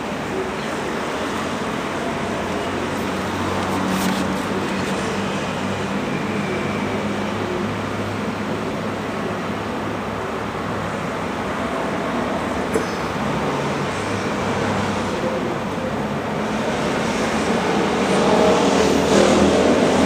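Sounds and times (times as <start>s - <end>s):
passing vehicle engine hum: 0.0s - 20.0s
road traffic noise: 0.0s - 20.0s.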